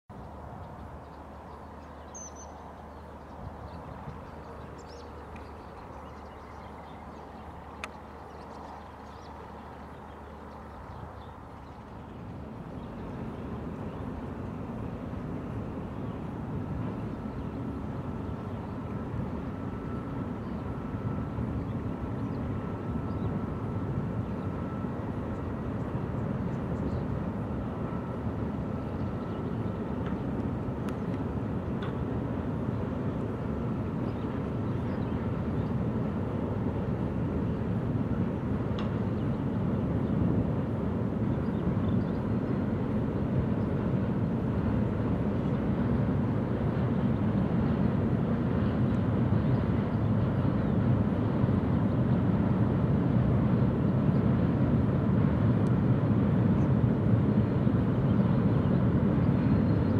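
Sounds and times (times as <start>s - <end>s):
faint steady whine: 0.1s - 59.9s.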